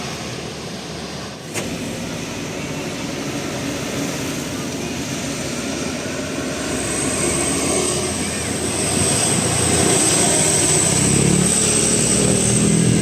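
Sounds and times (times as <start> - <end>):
large vehicle engine running: 0.0 - 13.0
road noise: 0.0 - 13.0.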